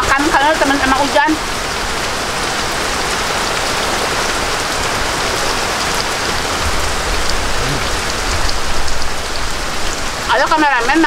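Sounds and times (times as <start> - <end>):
sharp water drips: 0.0 - 11.0
steady rain hiss: 0.0 - 11.0.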